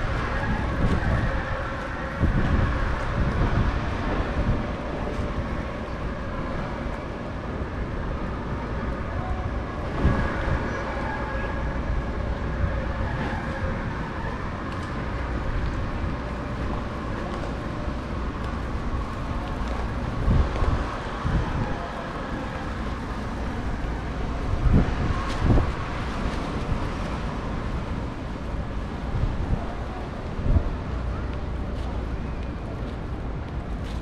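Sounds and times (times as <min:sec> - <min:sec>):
outdoor background noise: 0:00.0 - 0:34.0
wind rumbling on microphone: 0:00.0 - 0:34.0.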